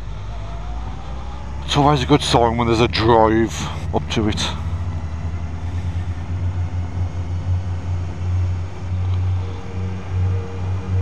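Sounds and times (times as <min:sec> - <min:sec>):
faint high hum: 0:00.0 - 0:11.0
motorcycle engine droning: 0:00.0 - 0:11.0.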